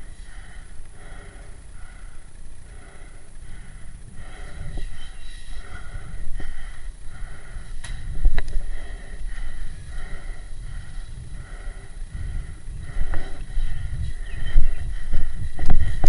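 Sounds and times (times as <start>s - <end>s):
person breathing hard: 0.0s - 16.0s
wind rumble: 0.0s - 16.0s.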